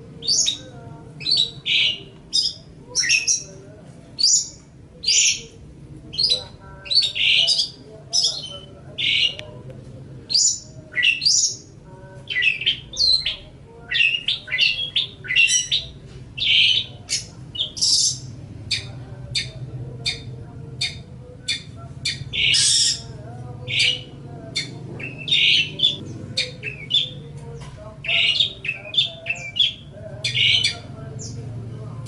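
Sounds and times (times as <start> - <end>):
bird singing fast chatter: 0.2 - 3.6, 6.1 - 9.4, 10.3 - 27.4, 28.0 - 31.6.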